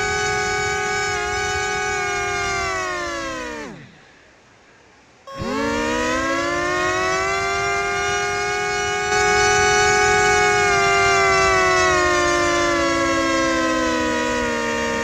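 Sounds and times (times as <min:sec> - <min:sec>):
siren wailing: 0:00.0 - 0:04.1, 0:05.3 - 0:15.0.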